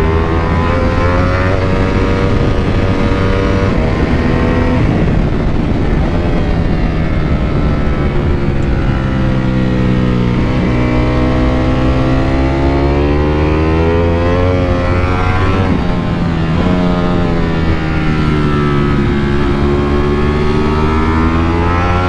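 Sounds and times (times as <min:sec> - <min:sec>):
motorcycle engine revving: 0:00.0 - 0:22.0
wind rushing: 0:00.0 - 0:22.0.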